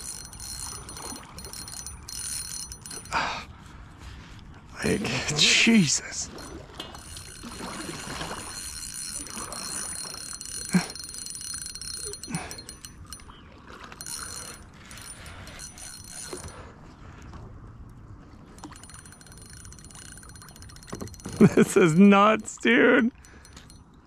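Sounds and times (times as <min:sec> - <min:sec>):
fishing reel whirring and clicking: 0:00.0 - 0:03.2, 0:05.5 - 0:16.7, 0:18.5 - 0:23.9.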